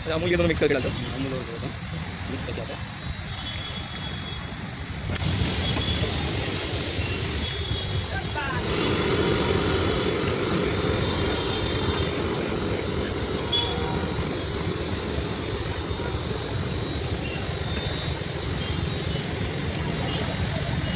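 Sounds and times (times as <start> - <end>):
passing traffic: 0.0 - 20.9.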